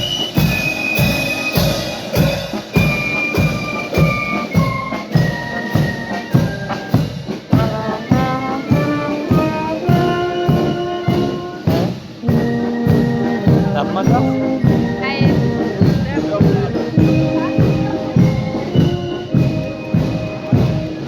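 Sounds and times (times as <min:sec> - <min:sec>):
brass band playing: 0:00.0 - 0:21.0
drum beat: 0:00.0 - 0:21.0.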